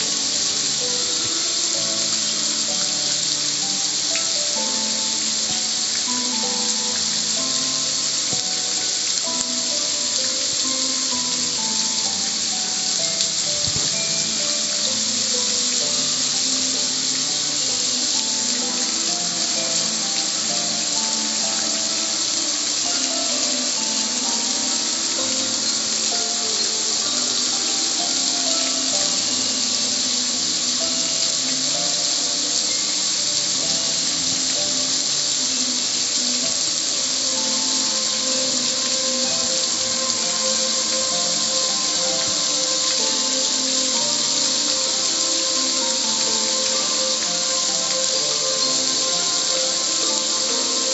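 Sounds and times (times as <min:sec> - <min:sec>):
hose water spraying on metal: 0:00.0 - 0:50.9.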